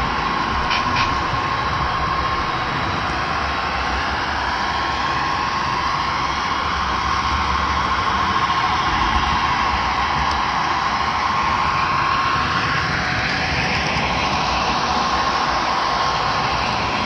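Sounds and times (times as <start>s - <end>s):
high whine: 0.0s - 17.0s
model train running: 0.0s - 17.0s.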